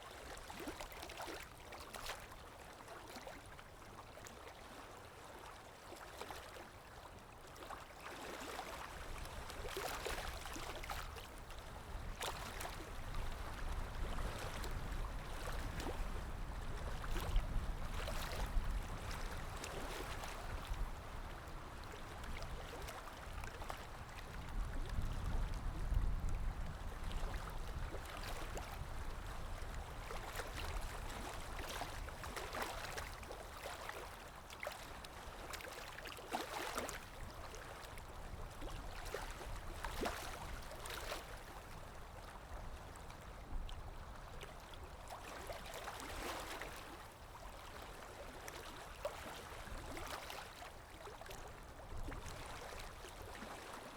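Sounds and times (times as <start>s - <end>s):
sea waves lapping and splashing: 0.0s - 53.9s.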